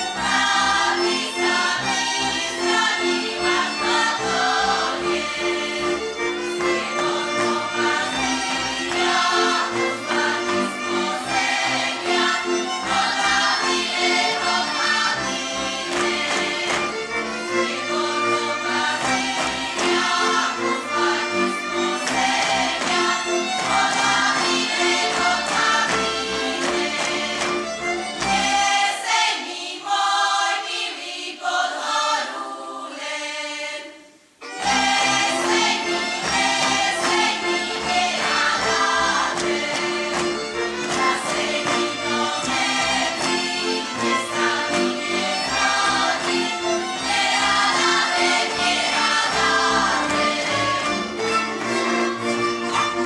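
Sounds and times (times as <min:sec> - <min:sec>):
folk string band: 0:00.0 - 0:53.0
group of voices singing folk song: 0:00.0 - 0:53.0.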